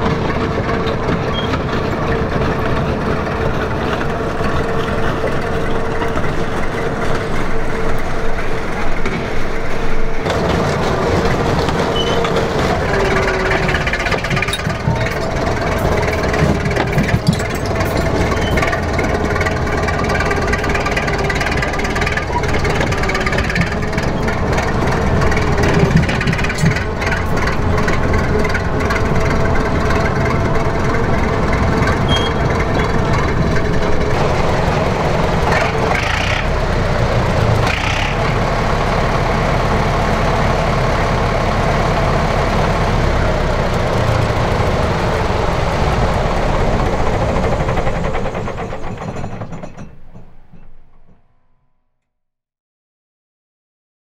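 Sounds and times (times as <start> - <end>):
bulldozer diesel engine running: 0.0 - 51.6.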